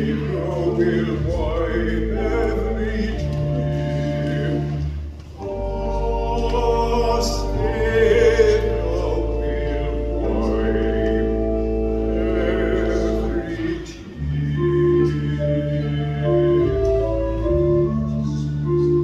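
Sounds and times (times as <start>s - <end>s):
baritone voice singing a hymn: 0.0s - 19.0s
organ chords: 0.0s - 19.0s.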